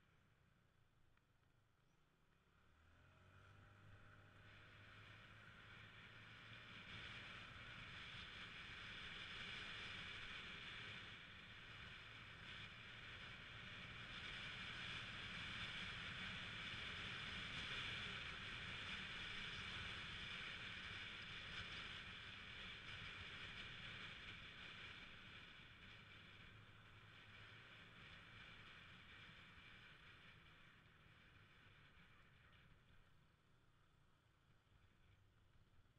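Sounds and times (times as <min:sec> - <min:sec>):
wind and road noise: 0:02.3 - 0:35.9.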